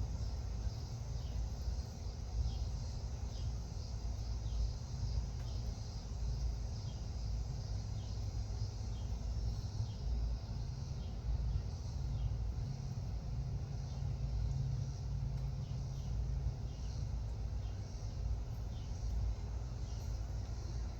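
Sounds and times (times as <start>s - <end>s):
insects hissing: 0.0s - 20.9s.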